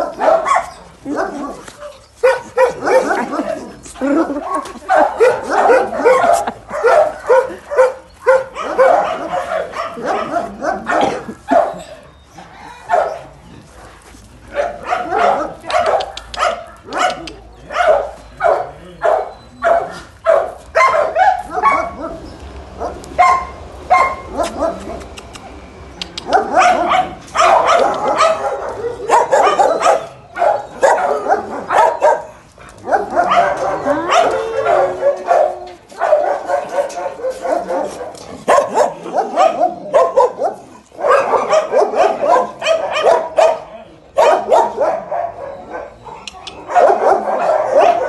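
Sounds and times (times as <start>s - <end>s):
dogs barking: 0.0s - 25.3s, 26.1s - 48.0s.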